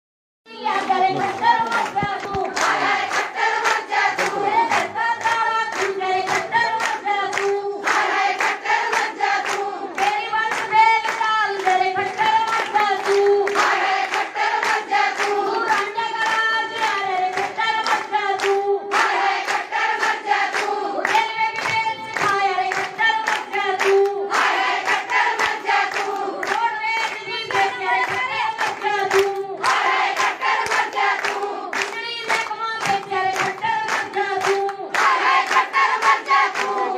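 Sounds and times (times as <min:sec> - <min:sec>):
women singing in unison: 0:00.5 - 0:36.9
hands clapping to a beat: 0:00.6 - 0:36.9.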